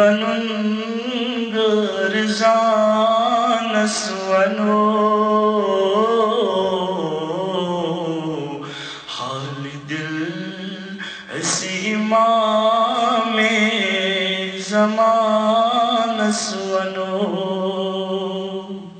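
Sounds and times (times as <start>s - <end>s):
young man chanting: 0.0s - 18.9s.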